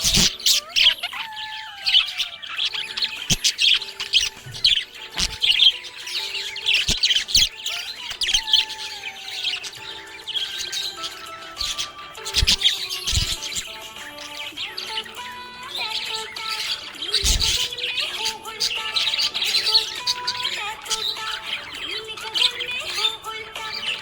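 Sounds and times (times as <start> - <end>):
budgerigar chirping and warbling: 0.0 - 24.0.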